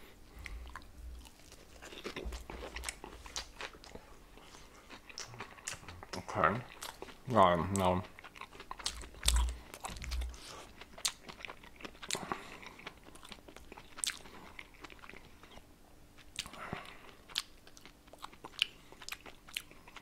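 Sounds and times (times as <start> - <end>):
person chewing crunchy food: 0.1 - 20.0.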